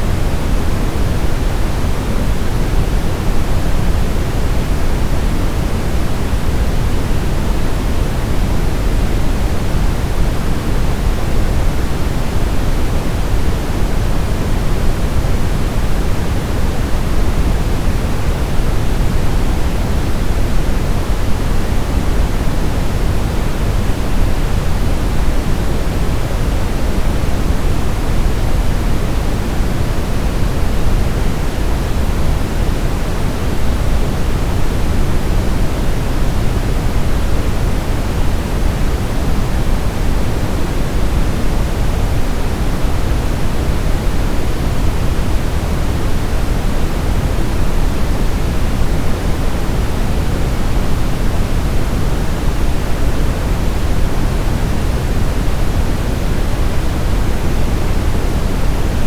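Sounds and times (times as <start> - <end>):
low steady hiss: 0.0 - 59.0.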